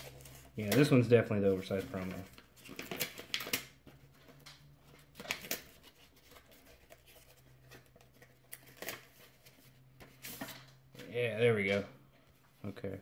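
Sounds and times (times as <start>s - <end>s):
paper envelope rustling and crackling: 0.0s - 11.1s.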